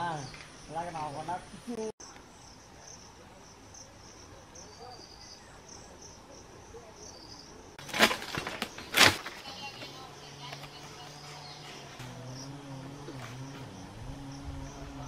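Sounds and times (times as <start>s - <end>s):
insects chirping in pulses: 0.0s - 15.0s.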